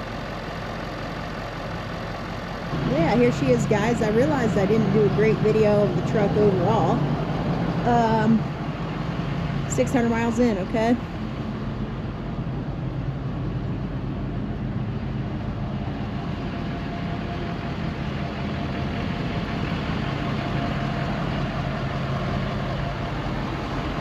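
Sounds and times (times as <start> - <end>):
pickup engine running: 0.0 - 24.0.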